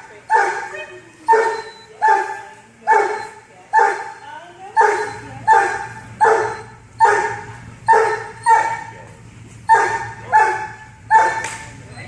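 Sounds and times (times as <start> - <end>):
dog barking: 0.3 - 4.2, 4.8 - 11.7.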